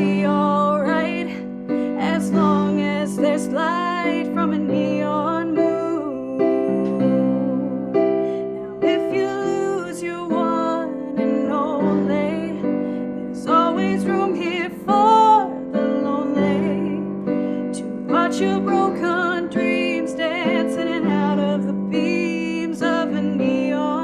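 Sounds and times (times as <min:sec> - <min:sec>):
piano chords: 0:00.0 - 0:24.0
woman singing with vibrato: 0:00.0 - 0:24.0.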